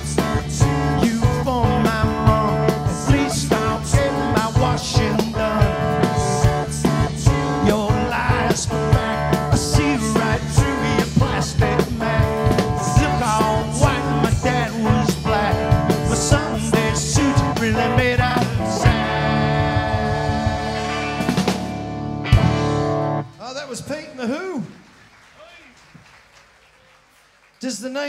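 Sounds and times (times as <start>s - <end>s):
electric guitar: 0.0s - 23.4s
hard-hit drums: 0.0s - 24.0s.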